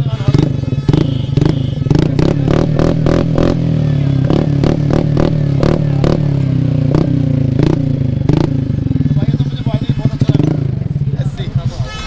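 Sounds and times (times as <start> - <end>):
low exhaust drone: 0.0 - 11.2
scooter engine throttle blips: 0.0 - 12.0.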